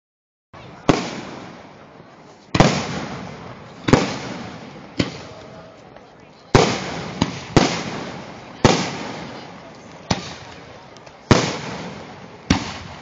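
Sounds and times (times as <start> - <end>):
fireworks bangs with rumbling echo: 0.6 - 13.0.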